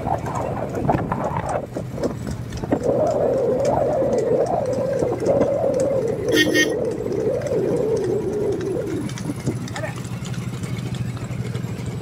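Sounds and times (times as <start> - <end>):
cart wheels rattling on pavement: 0.0 - 12.0.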